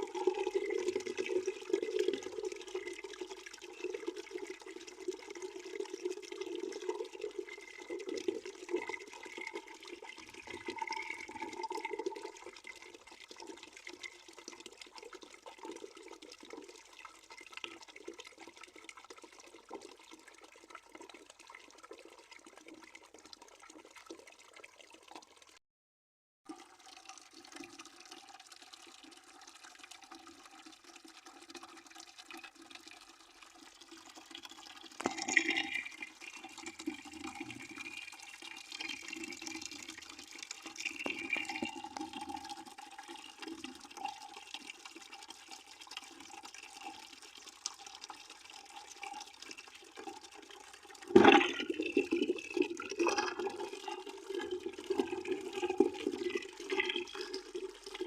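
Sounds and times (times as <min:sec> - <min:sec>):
water pouring into a bucket: 0:00.0 - 0:25.6, 0:26.4 - 0:58.0.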